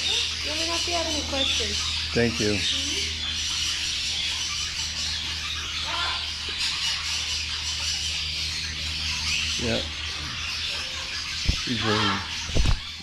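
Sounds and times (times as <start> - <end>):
birds chirping and squawking: 0.0 - 13.0
steady low hum: 0.0 - 13.0.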